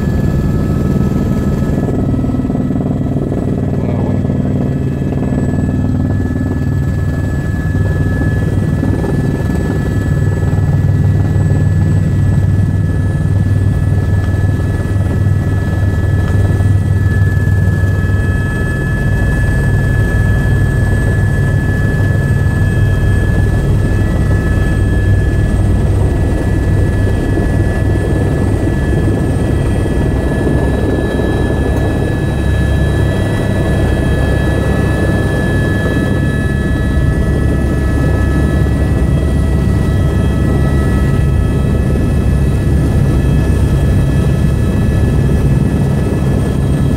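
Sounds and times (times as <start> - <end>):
helicopter turbine whine: 0.0 - 46.9
low helicopter rotor throb: 0.0 - 46.9.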